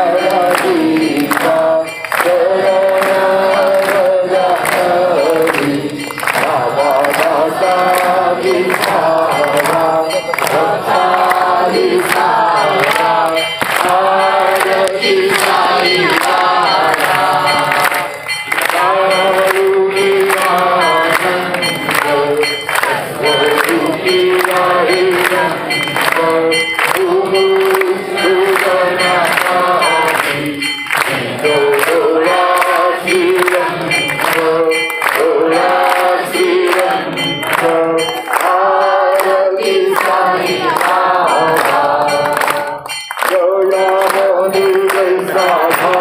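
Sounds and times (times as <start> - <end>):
sharp percussion strikes: 0.0 - 46.0
voices singing together: 0.0 - 46.0.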